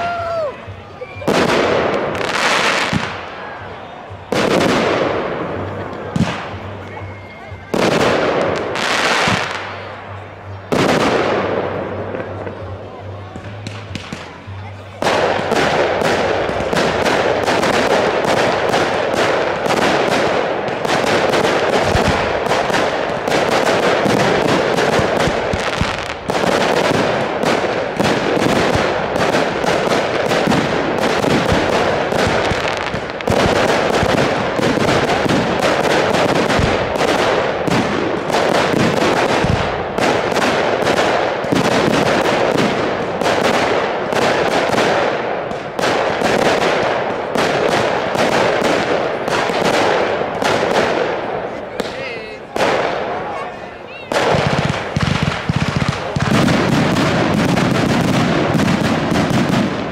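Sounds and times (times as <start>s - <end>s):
firework crackle: 0.0s - 59.9s
fireworks bursting bangs: 0.0s - 59.9s.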